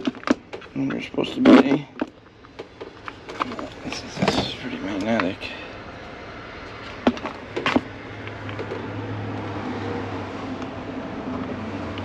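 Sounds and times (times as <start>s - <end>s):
steady low hum: 0.6s - 12.0s.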